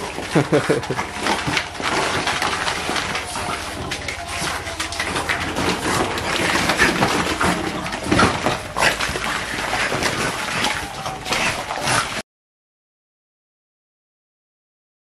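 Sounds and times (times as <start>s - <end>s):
plastic balls clattering: 0.0s - 12.2s
plastic pool rustling: 0.0s - 12.2s
puppies making noises: 0.0s - 12.2s.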